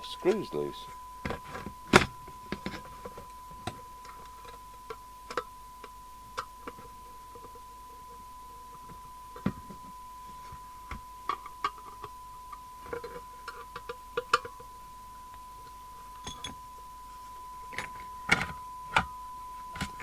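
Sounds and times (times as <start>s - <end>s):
single-pitch test tone: 0.0s - 20.0s.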